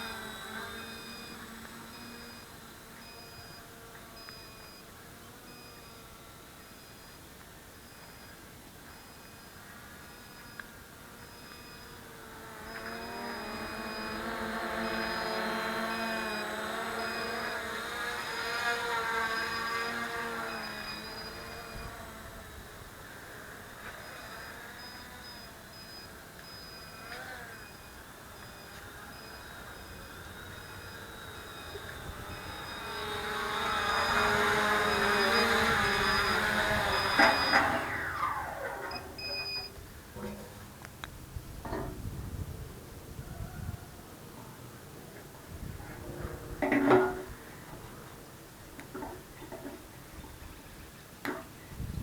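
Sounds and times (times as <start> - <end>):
quadcopter propellers whirring: 0.0 - 52.0.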